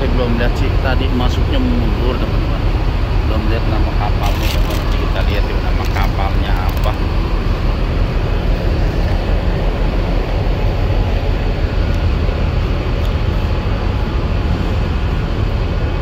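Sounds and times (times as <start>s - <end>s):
ferry engines rumbling: 0.0s - 16.0s.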